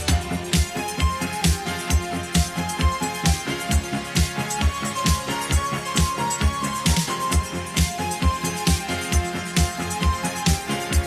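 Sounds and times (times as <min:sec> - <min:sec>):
background music with kick drum: 0:00.0 - 0:11.0.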